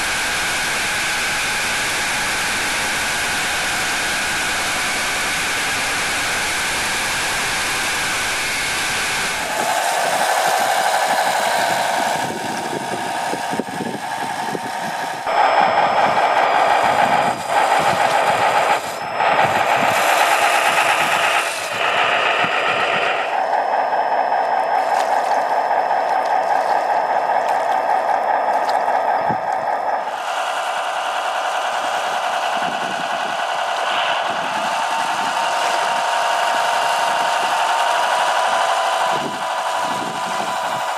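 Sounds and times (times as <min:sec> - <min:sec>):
toy truck motor whining: 0:00.3 - 0:40.9.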